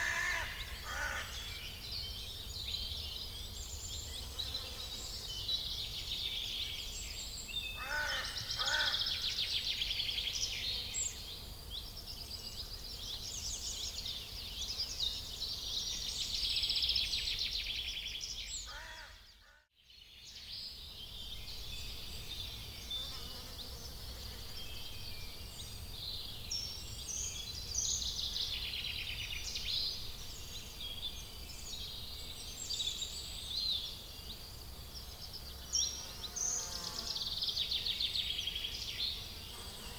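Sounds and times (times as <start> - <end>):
small birds singing: 0.0 - 39.9.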